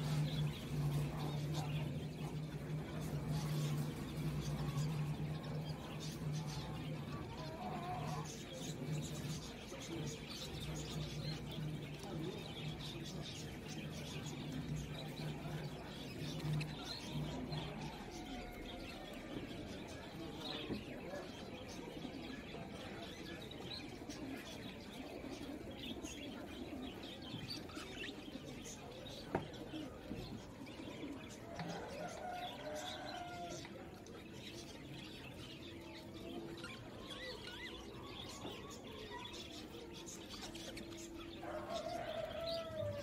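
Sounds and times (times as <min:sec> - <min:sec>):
birdsong chirps and cooing: 0:00.0 - 0:43.0.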